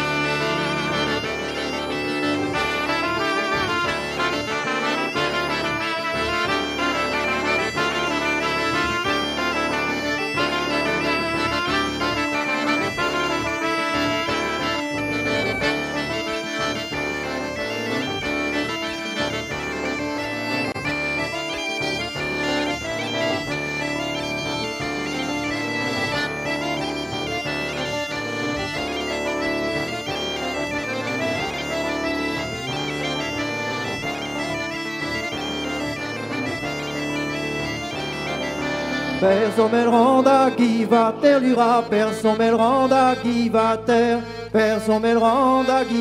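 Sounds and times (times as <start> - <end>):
bagpipes playing folk dance tune: 0.0 - 46.0.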